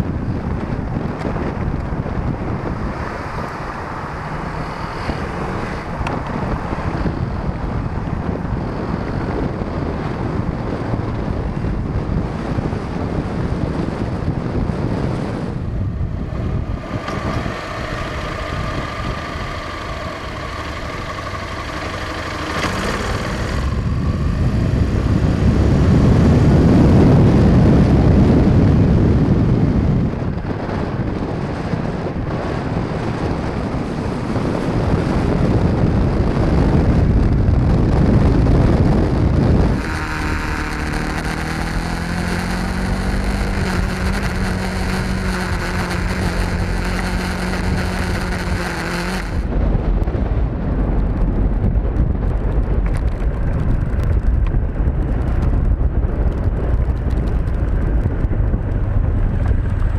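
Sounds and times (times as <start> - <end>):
motorcycle engines passing by: 0.7 - 49.7.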